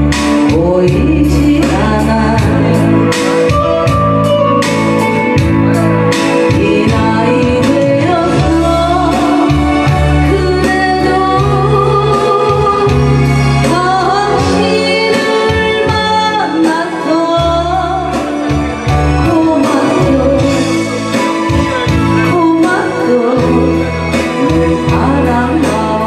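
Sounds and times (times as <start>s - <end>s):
instrumental accompaniment: 0.0s - 26.0s
woman singing into a microphone: 0.0s - 26.0s.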